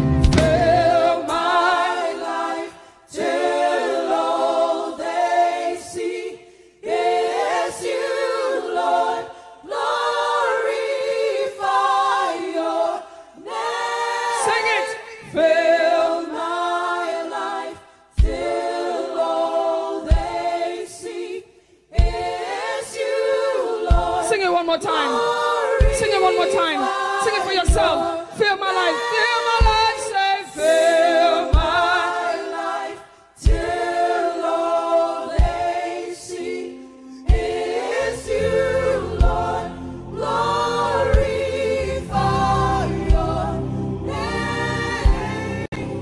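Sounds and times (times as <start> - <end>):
group singing a cappella: 0.0 - 46.0.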